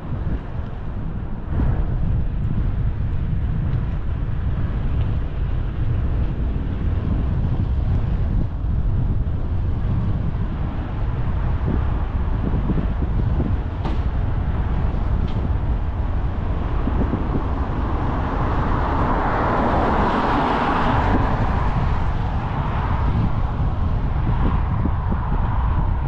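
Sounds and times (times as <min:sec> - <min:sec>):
road rumble: 0:00.0 - 0:26.0
wind buffeting microphone: 0:00.0 - 0:26.0.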